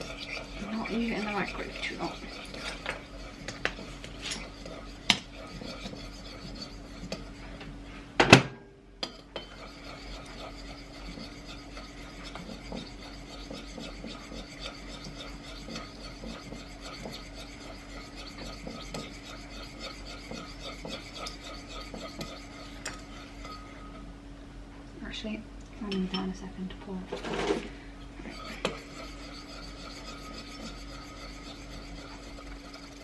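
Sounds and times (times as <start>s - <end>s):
light scraping and rubbing: 0.0s - 8.1s, 9.5s - 24.0s, 27.1s - 33.0s
steady low hum: 0.0s - 33.0s.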